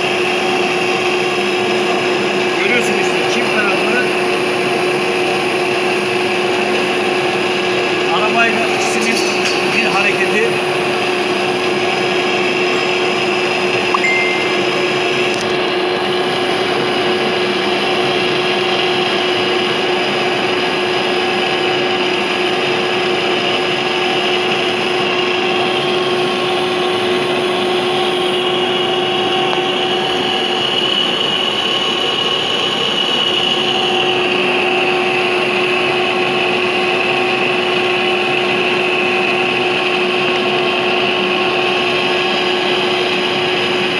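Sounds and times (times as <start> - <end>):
high machine whine: 0.0 - 43.9
lathe machine drone: 0.0 - 43.9.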